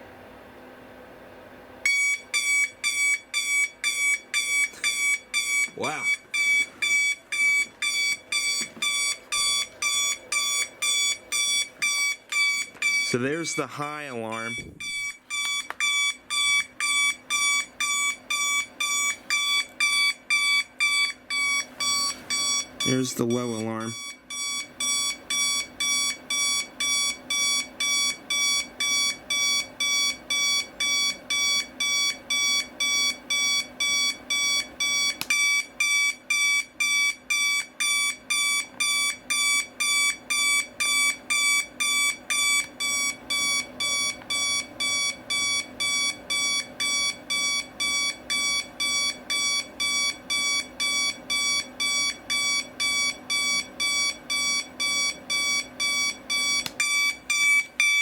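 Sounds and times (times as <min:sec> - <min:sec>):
alarm clock beeping: 0:01.8 - 0:58.0.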